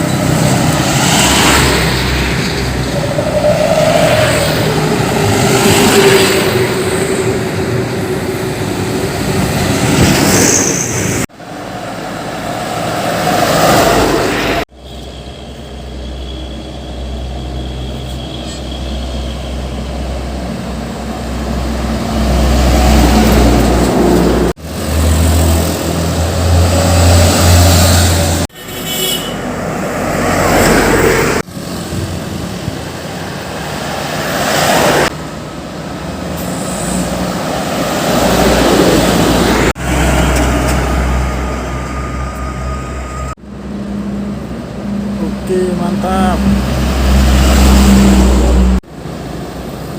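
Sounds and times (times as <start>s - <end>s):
diesel truck engines rumbling: 0.0s - 28.5s, 29.3s - 49.9s.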